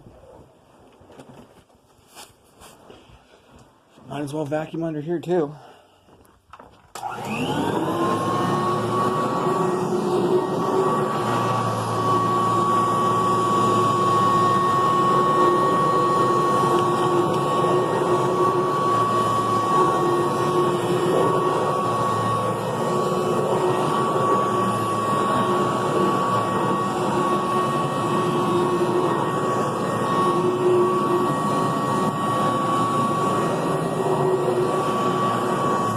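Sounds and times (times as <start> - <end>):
vacuum cleaner running: 7.0 - 35.9.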